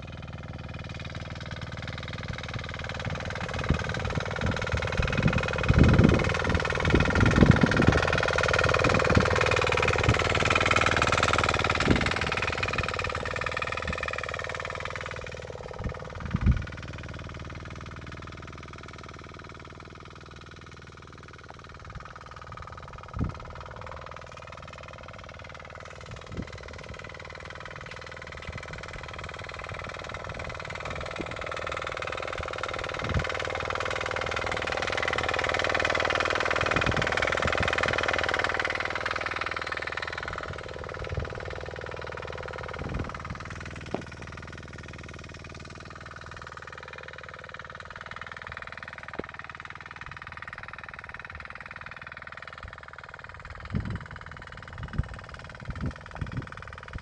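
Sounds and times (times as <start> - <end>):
power weeder engine running: 0.0 - 57.0.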